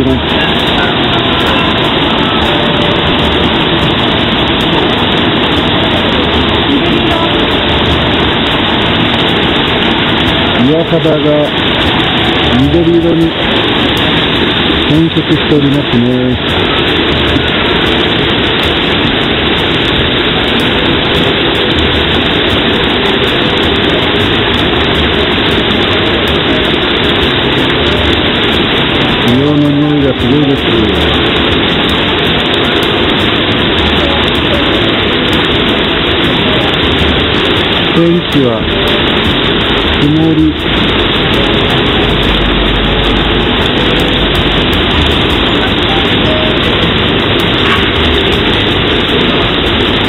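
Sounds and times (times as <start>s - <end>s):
hot spring water pouring: 0.0s - 50.0s.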